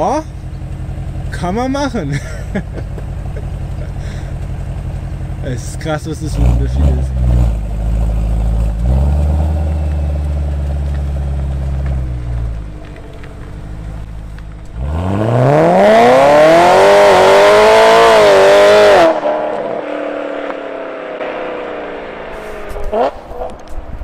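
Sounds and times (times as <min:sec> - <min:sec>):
car engine rumbling and revving: 0:00.0 - 0:24.0.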